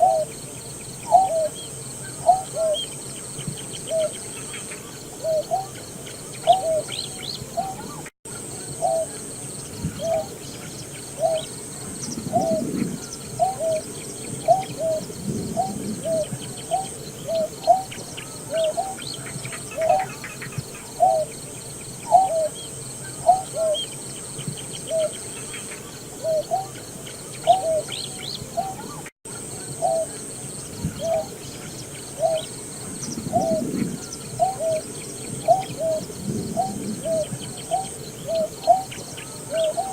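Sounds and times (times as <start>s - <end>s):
bird low hooting calls: 0.0s - 39.9s.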